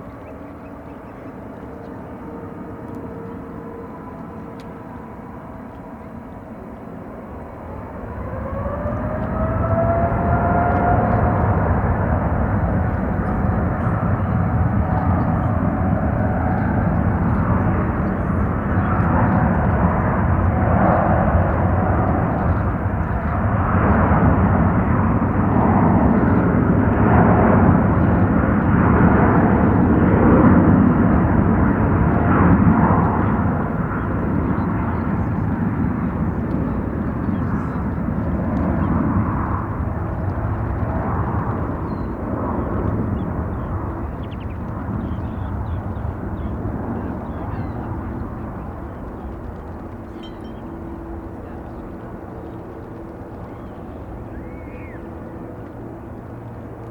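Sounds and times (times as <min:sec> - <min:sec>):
jet engines roaring at takeoff: 0:00.0 - 0:56.9.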